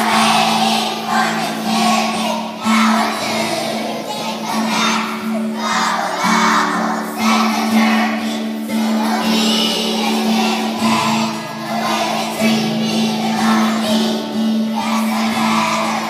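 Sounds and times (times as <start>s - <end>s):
children's choir singing: 0.0s - 16.0s
instrumental accompaniment: 0.0s - 16.0s.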